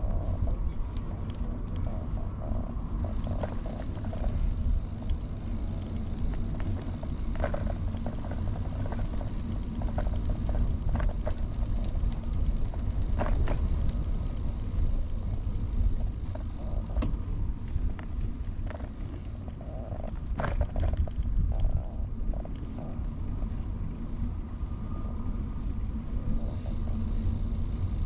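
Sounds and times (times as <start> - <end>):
bicycle clicks and rattles: 0.0 - 28.0
bicycle tyres rumbling: 0.0 - 28.0.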